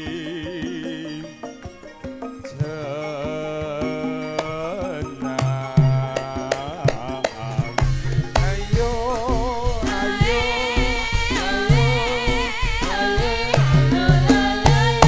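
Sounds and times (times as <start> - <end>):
hand drums beating: 0.0 - 15.0
singing with wide vibrato: 0.0 - 15.0.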